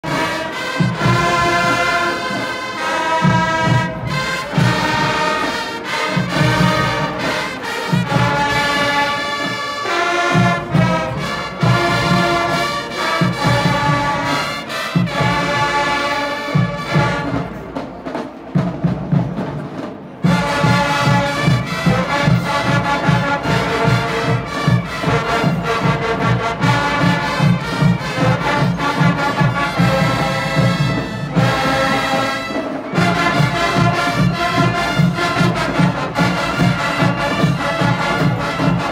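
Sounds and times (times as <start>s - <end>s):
marching band brass chords: 0.0s - 38.9s
steady drumbeat: 0.0s - 38.9s.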